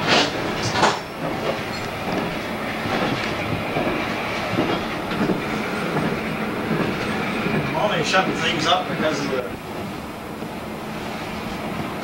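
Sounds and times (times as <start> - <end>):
wheels clacking over rail joints: 0.0 - 10.6
freight train running noise: 0.0 - 12.0.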